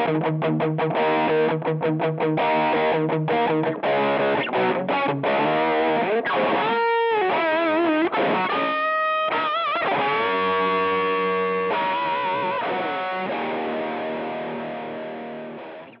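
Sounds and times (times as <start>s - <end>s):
overdriven electric guitar: 0.0s - 16.0s.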